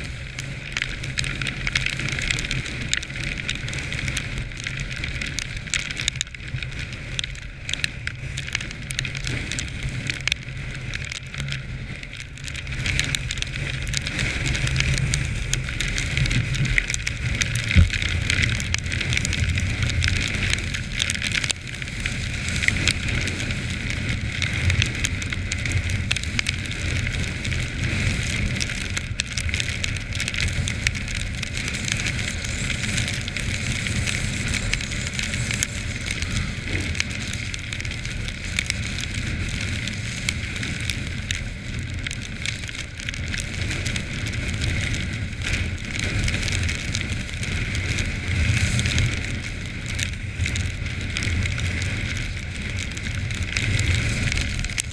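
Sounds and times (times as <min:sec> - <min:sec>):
crackling hiss: 0:00.0 - 0:54.9.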